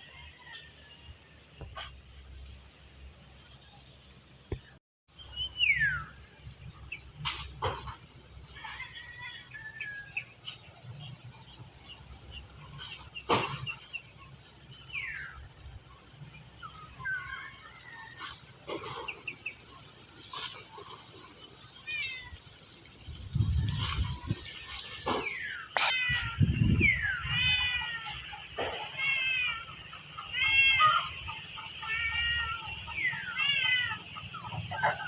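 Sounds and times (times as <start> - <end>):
birds chirping: 1.4 - 35.0.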